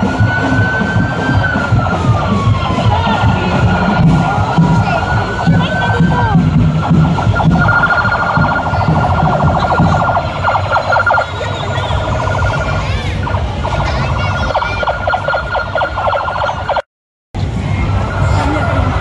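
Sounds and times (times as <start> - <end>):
pulsing electronic siren: 0.0 - 16.8
steady high siren tone: 0.0 - 16.8.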